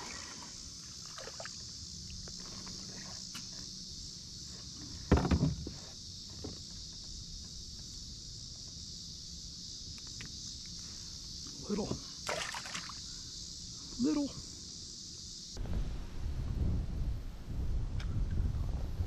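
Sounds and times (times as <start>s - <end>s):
steady high hiss: 0.0s - 17.9s.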